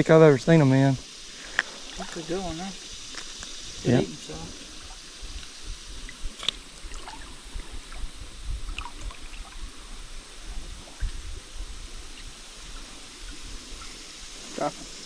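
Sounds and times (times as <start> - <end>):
creek water trickling: 0.0 - 15.0
light water splashes: 1.3 - 15.0.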